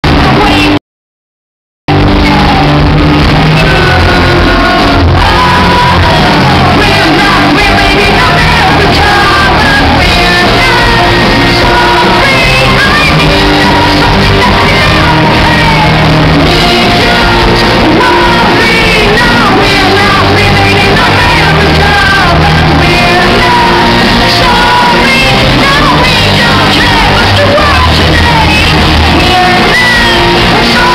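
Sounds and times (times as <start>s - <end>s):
live band playing: 0.0s - 0.8s, 1.9s - 30.9s
woman singing into microphone: 0.1s - 0.8s, 3.4s - 30.9s.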